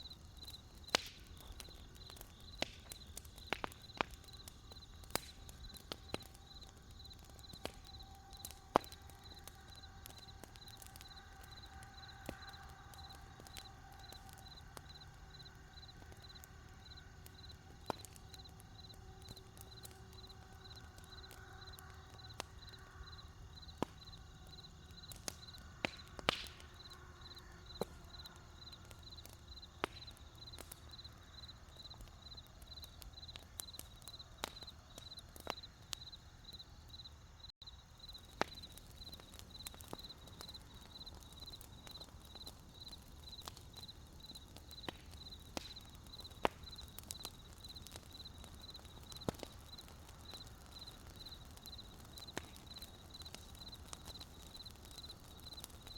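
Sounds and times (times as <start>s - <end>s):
campfire crackling and popping: 0.0s - 55.9s
crickets chirping: 0.0s - 55.9s.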